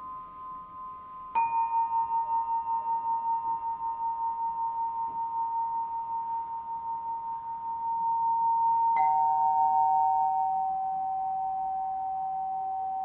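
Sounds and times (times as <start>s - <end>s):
singing bowl ringing: 0.0s - 13.0s
singing bowl struck: 0.0s - 13.0s.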